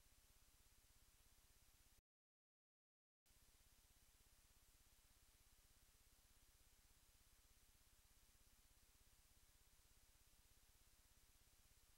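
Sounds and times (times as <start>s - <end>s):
faint low hum with hiss: 0.0s - 2.0s, 3.3s - 11.9s.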